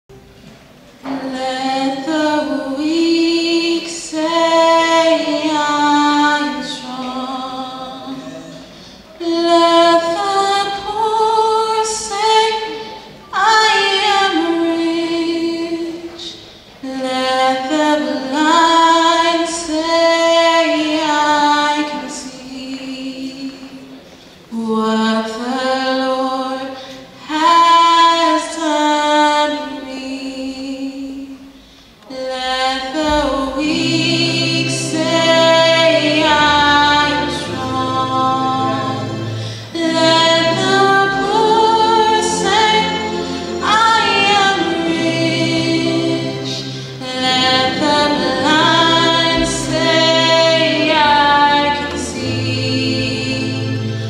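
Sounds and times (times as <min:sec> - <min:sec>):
choir singing gospel: 0:01.0 - 0:23.4, 0:32.1 - 0:54.0
woman singing lead: 0:01.0 - 0:23.9, 0:24.5 - 0:54.0.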